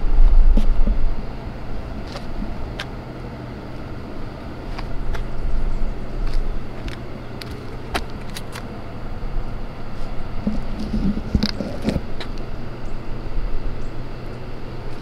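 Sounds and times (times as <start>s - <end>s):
low hum of traffic: 0.0s - 15.0s.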